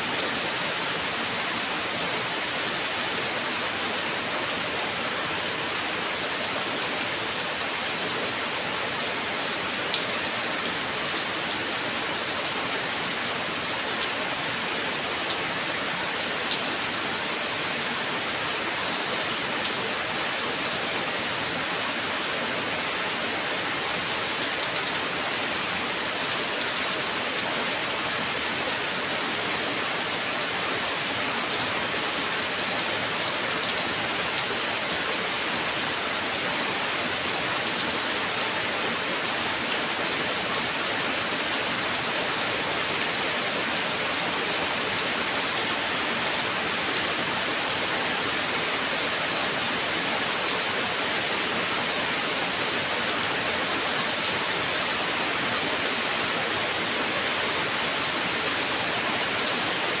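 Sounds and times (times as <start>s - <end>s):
heavy rain: 0.0s - 60.0s.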